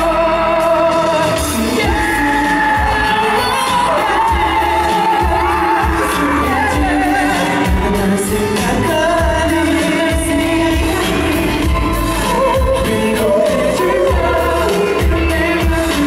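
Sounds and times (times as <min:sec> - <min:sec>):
backing track with deep bass: 0:00.0 - 0:16.0
male singer singing into microphone: 0:00.0 - 0:16.0.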